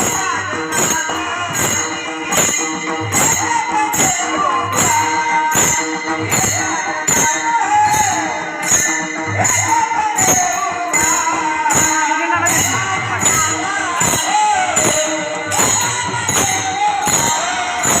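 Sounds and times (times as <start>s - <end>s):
hand cymbals struck: 0.0s - 18.0s
person singing devotional song: 0.0s - 18.0s.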